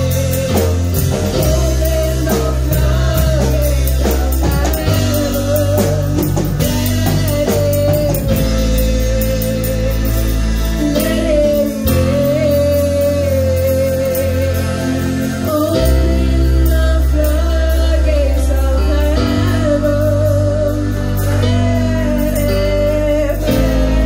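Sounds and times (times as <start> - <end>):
electric guitar: 0.0 - 24.0
keyboard: 0.0 - 24.0
woman singing into microphone: 0.0 - 24.0.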